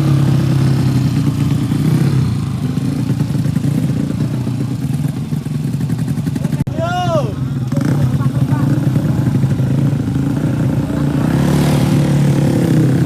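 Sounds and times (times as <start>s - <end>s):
motorcycle engine running loudly: 0.0s - 13.0s.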